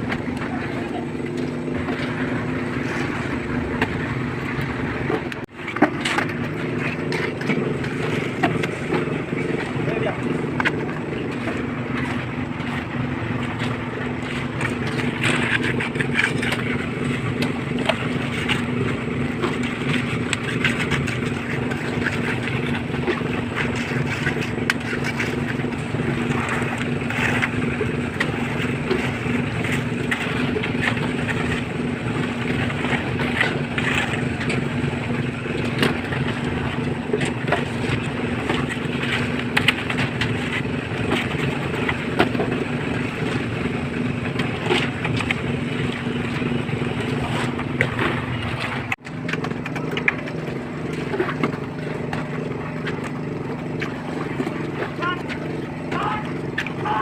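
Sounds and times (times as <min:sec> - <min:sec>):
concrete mixer running: 0:00.0 - 0:57.0.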